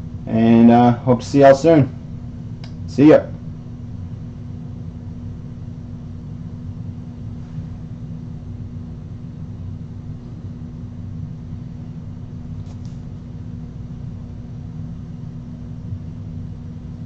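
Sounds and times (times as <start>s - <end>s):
room noise hum and rumble: 0.0s - 17.0s.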